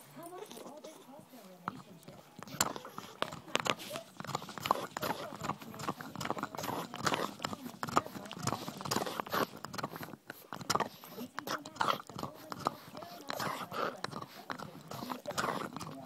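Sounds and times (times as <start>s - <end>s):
dog chewing on bone: 0.0s - 16.0s.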